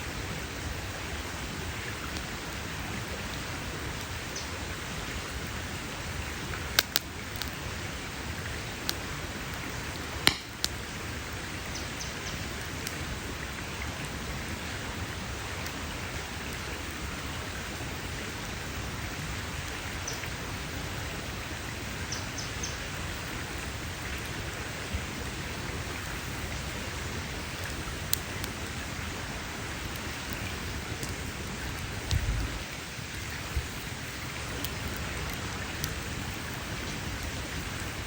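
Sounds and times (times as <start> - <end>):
campfire crackling and popping: 0.3 - 20.4, 21.7 - 38.0.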